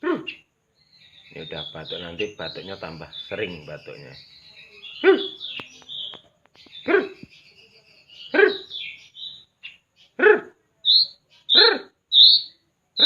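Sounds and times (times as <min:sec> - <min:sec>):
bird harsh rasping calls: 0:00.0 - 0:07.5, 0:08.2 - 0:13.0
bird chirping: 0:00.0 - 0:13.0.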